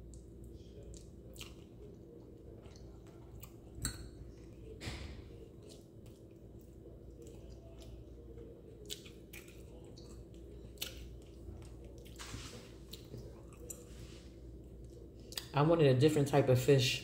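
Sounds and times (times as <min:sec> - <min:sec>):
person chewing: 0:00.0 - 0:15.5
steady low hum: 0:00.0 - 0:17.0.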